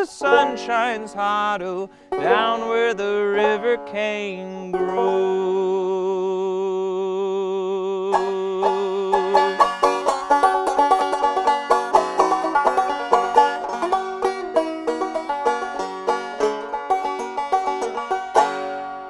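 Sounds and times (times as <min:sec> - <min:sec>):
plucked string instrumental: 0:00.0 - 0:05.8, 0:08.1 - 0:19.0.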